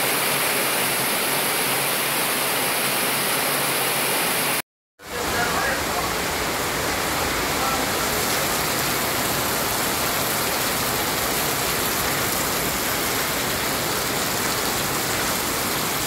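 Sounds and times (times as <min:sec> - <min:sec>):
floodwater running over asphalt: 0:00.0 - 0:16.0
heavy rain on street: 0:00.0 - 0:16.0.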